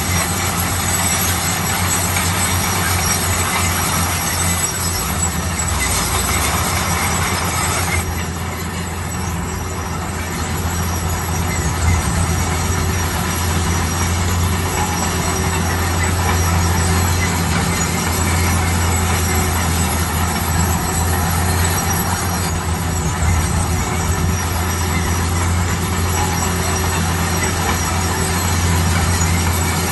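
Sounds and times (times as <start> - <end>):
diesel engine humming: 0.0 - 29.9
machine clatter: 0.0 - 29.9.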